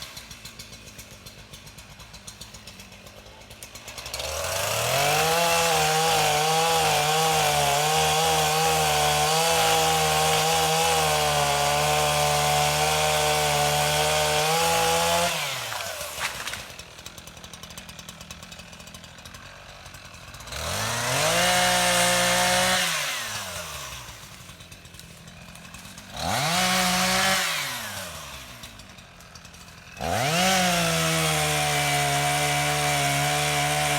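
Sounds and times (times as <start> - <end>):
chainsaw revving and cutting wood: 0.0 - 33.9.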